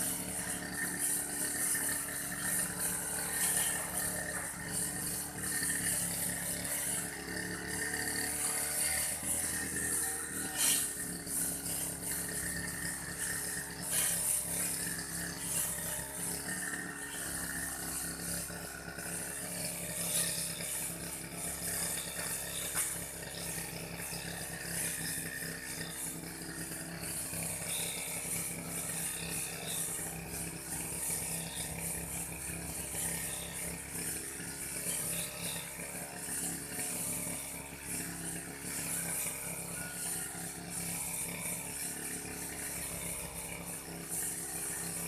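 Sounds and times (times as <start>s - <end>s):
brush cutter engine drone: 0.0s - 45.0s
hiss of cutting grass: 0.0s - 45.0s.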